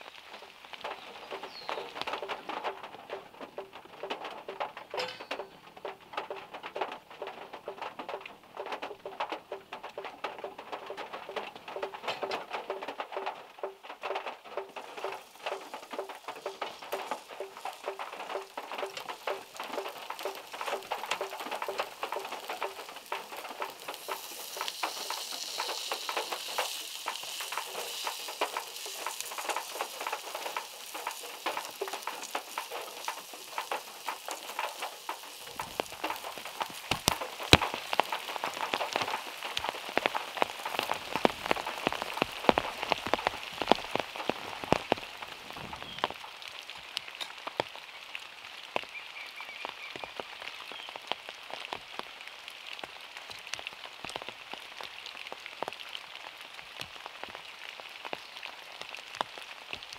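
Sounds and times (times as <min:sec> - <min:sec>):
rain pattering on car body: 0:00.0 - 0:59.9.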